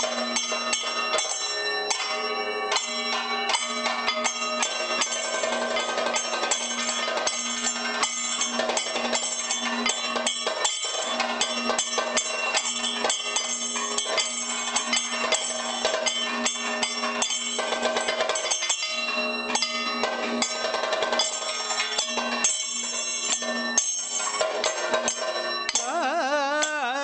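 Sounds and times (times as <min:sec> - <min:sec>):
gong: 0:00.0 - 0:27.0
ringing hand cymbals: 0:00.0 - 0:27.0
steady held tone: 0:00.0 - 0:27.0.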